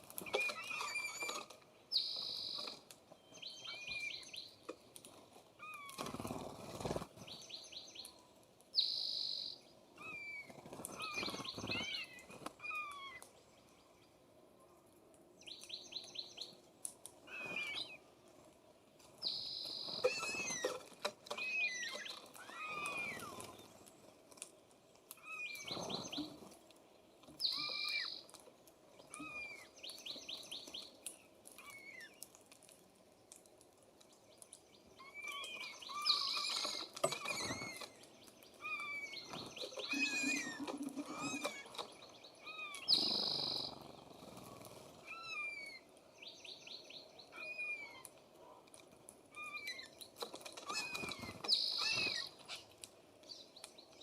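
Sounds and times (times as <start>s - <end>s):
songbirds singing and calling: 0.1s - 54.0s.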